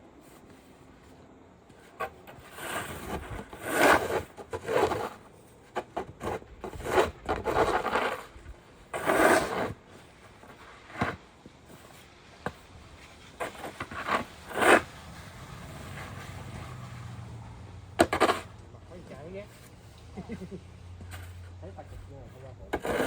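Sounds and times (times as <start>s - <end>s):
scraping and rubbing noises: 0.1s - 23.0s.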